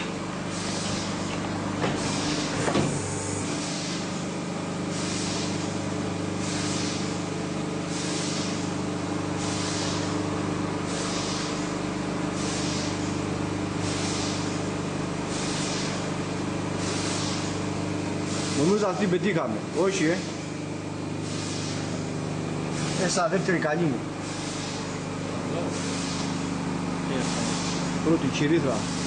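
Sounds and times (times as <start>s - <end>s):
machine electric hum: 0.0s - 29.0s.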